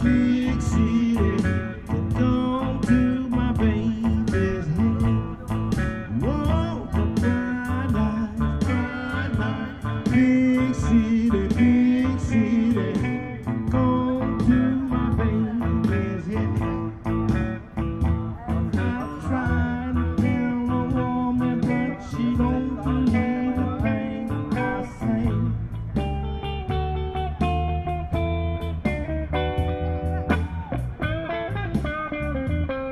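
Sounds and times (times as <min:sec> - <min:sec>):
bluesy guitar and saxophone music: 0:00.0 - 0:32.9.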